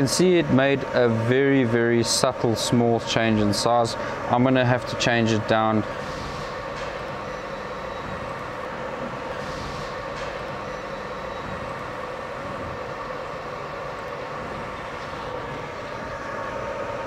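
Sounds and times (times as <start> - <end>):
laser marking machine whirring: 0.0 - 17.0.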